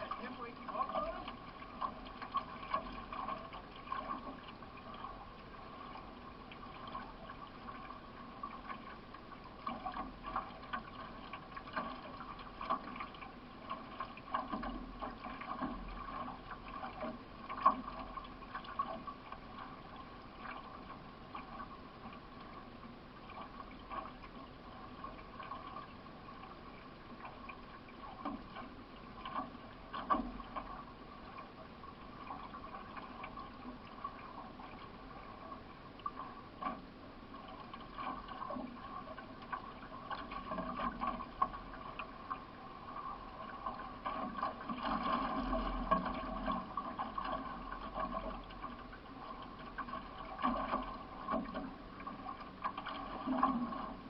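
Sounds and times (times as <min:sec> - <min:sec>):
paddle strokes splashing: 0:00.0 - 0:54.0
water washing along hull: 0:00.0 - 0:54.0.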